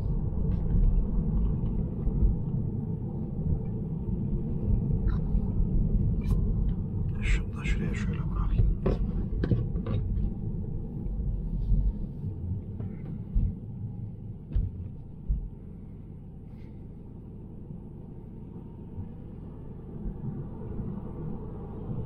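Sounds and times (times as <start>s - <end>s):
road and tyre rumble in car: 0.0s - 22.0s.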